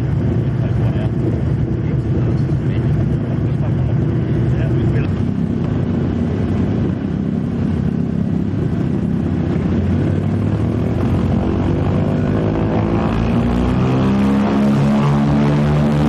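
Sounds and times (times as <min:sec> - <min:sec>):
radial aircraft engines droning: 0:00.0 - 0:16.0.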